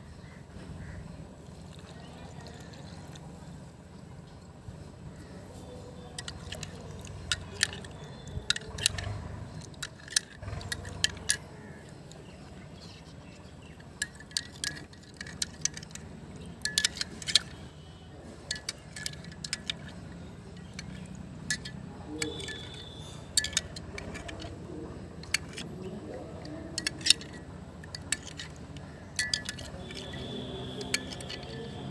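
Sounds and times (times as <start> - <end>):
utensils clinking against a pan: 6.0 - 31.9.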